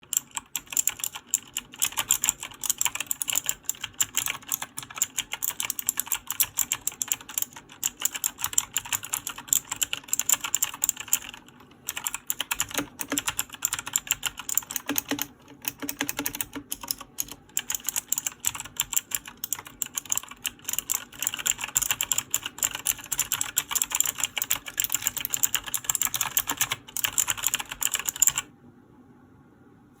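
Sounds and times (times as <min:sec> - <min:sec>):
mechanical keyboard typing: 0:00.0 - 0:28.5.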